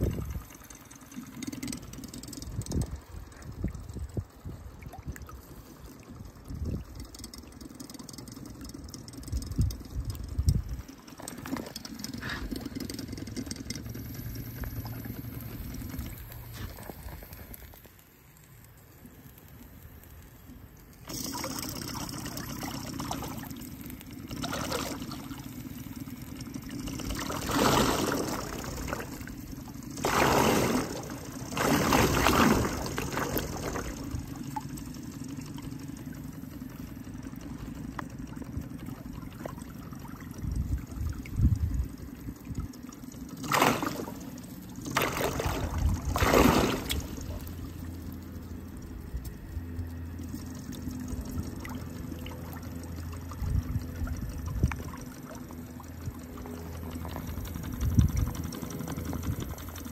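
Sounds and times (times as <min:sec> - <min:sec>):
propeller churning water: 0:00.0 - 0:59.9
steady low hum: 0:00.0 - 0:59.9.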